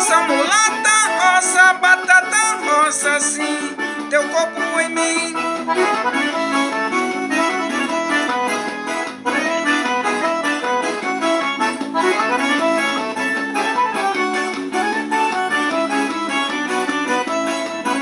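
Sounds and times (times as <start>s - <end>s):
accordion melody: 0.0s - 18.0s
steady musical backing: 0.0s - 18.0s.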